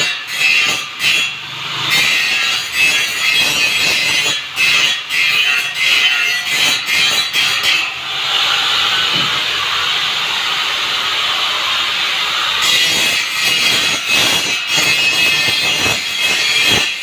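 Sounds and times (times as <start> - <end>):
power tool hissing on steel: 0.0 - 17.0.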